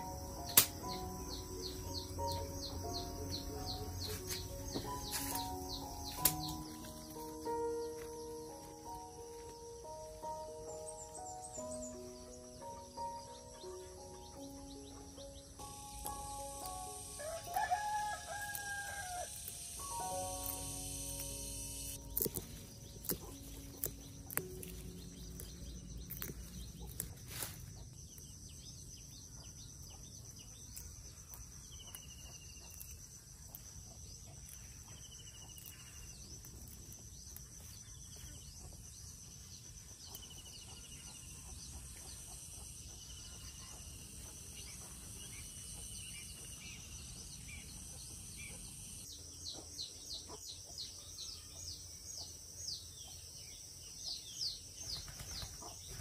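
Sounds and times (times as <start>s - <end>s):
bird chirps: 0.0s - 56.0s
insects droning: 0.0s - 56.0s.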